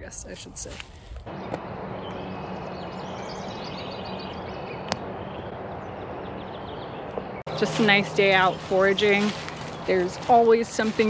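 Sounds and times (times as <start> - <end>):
low hum: 1.2 - 11.0
birds chirping faintly: 1.3 - 11.0.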